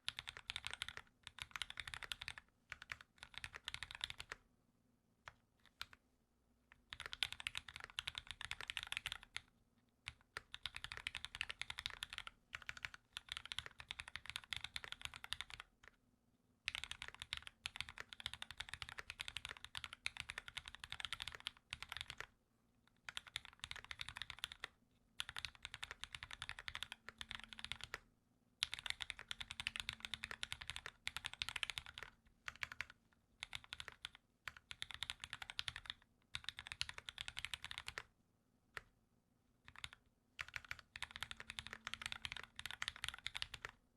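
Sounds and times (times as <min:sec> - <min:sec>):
fast typing on mechanical keyboard: 0:00.0 - 0:04.4, 0:06.8 - 0:15.9, 0:16.6 - 0:22.3, 0:23.0 - 0:28.0, 0:28.6 - 0:38.1, 0:39.6 - 0:43.8.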